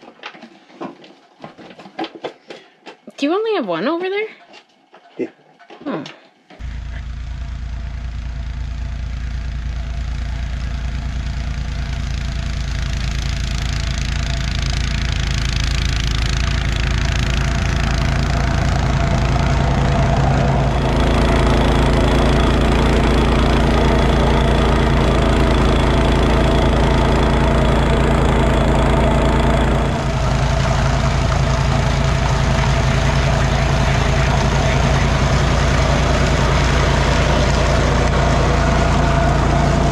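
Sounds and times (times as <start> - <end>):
snowblower engine running under load: 6.6 - 39.9.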